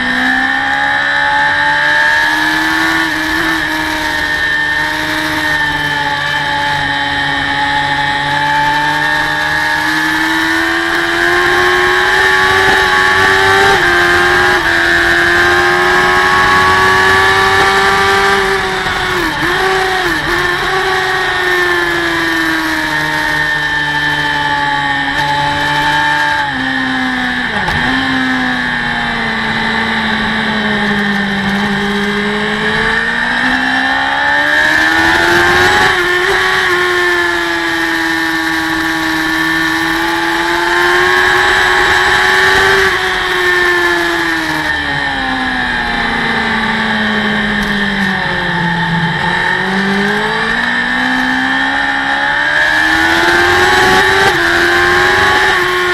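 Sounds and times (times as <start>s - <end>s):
racing motorcycle engine: 0.0s - 55.9s.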